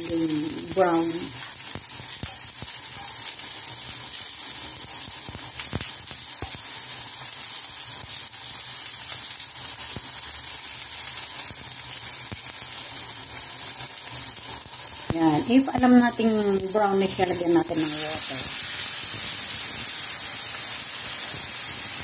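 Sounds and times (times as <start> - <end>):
balls sizzling in oil: 0.0 - 22.0.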